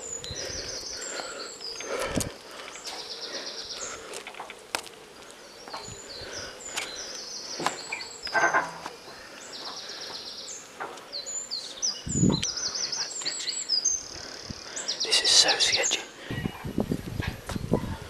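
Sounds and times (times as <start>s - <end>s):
birds singing: 0.0s - 18.0s.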